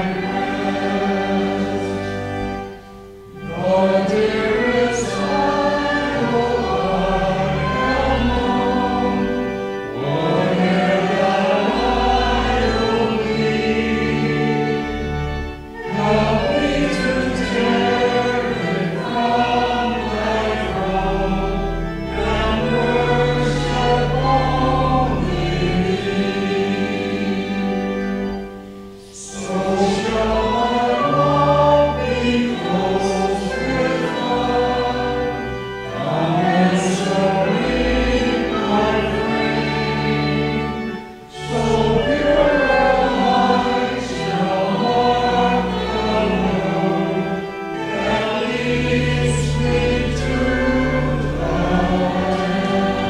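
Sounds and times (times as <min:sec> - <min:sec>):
congregation singing a hymn: 0:00.0 - 0:53.0
held low accompanying notes: 0:00.0 - 0:53.0.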